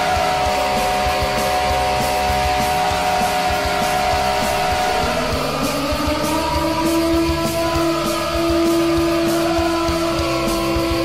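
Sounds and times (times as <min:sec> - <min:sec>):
hard rock song: 0:00.0 - 0:11.0.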